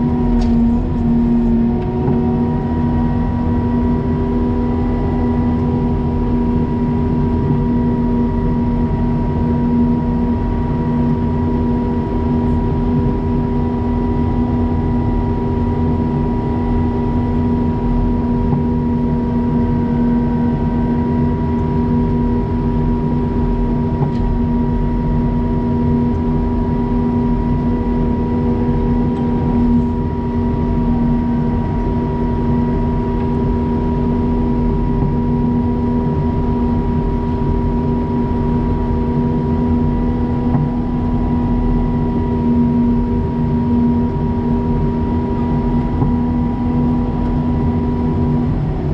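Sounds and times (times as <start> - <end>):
loader engine rumbling with whine: 0.0 - 48.9.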